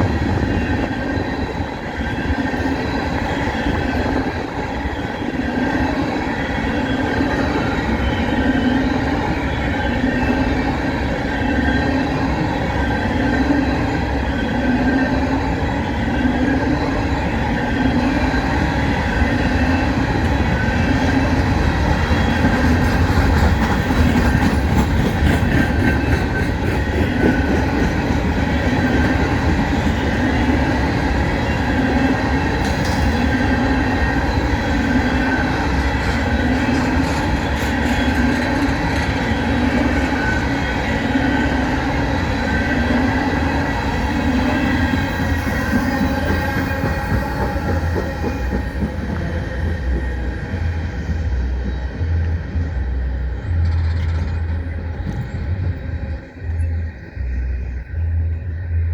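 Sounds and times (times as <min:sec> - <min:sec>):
freight train rumbling: 0:00.0 - 0:58.9.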